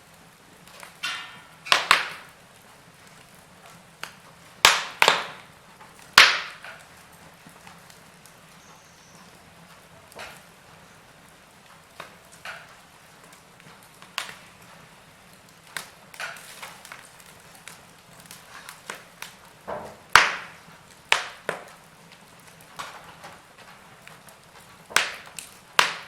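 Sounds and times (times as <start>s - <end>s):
logs crackling in a fireplace: 0.0s - 26.0s.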